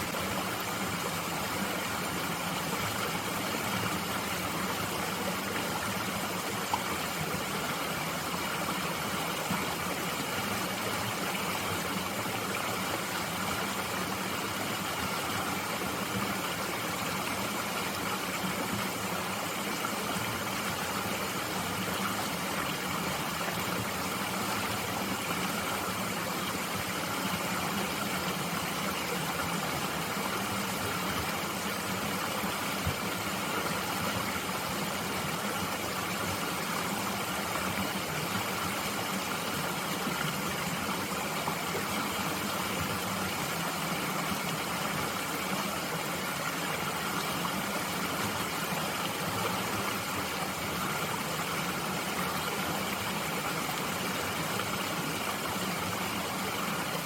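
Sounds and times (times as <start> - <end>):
mountain stream flowing: 0.0 - 57.0.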